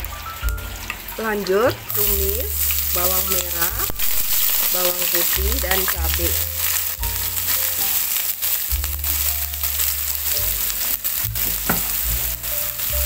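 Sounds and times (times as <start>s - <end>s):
food sizzling in hot oil: 0.0s - 13.0s
soft background music: 0.0s - 13.0s
spatula stirring in wok: 1.9s - 13.0s.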